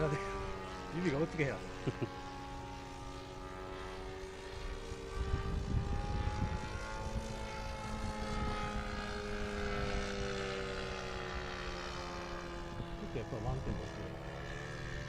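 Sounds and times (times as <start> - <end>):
model airplane motor droning: 0.0 - 15.0.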